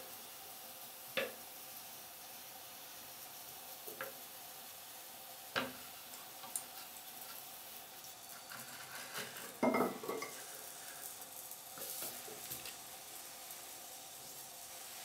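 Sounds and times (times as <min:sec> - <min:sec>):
mist maker hissing crackle: 0:00.0 - 0:15.0.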